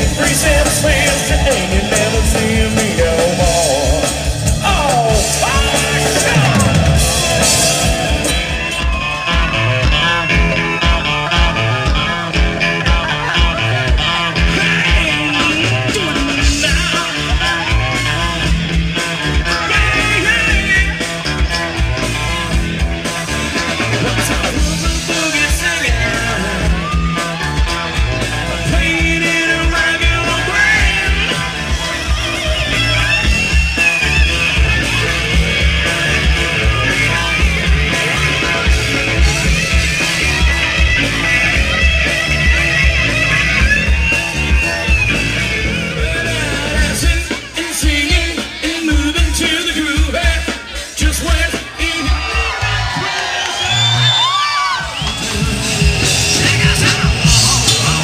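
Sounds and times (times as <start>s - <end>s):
lead singer singing: 0.0s - 21.5s, 23.1s - 58.0s
live rock band playing: 0.0s - 58.0s.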